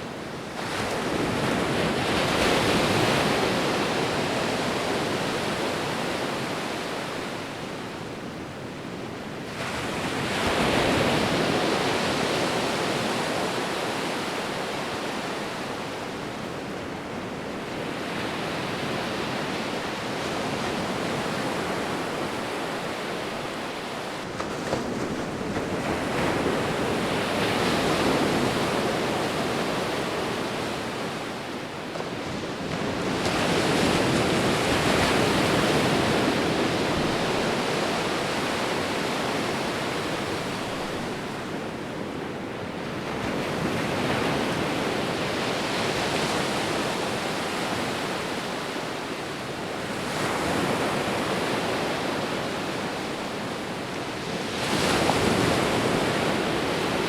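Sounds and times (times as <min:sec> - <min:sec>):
sea waves rolling in: 0:00.0 - 0:57.0.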